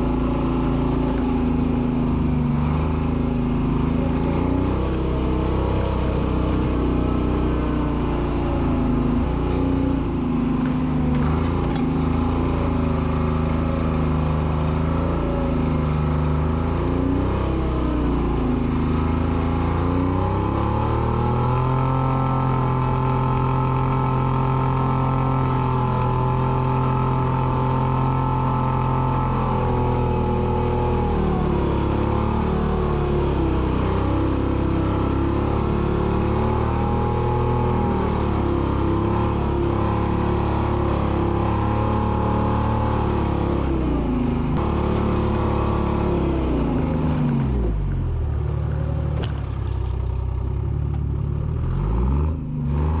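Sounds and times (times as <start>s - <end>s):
diesel engine working under load: 0.0s - 53.0s.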